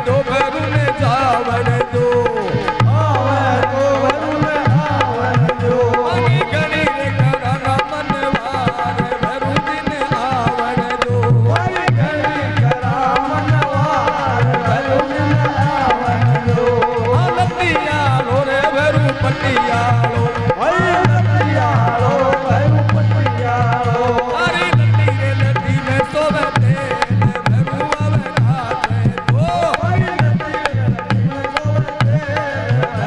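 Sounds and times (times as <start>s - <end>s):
harmonium melody: 0.0s - 33.0s.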